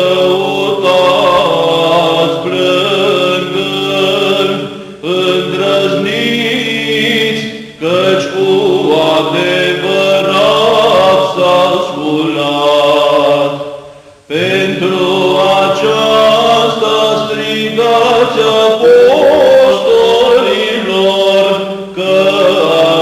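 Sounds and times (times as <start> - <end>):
held vocal drone: 0.0 - 23.0
wordless melismatic chant: 0.0 - 23.0.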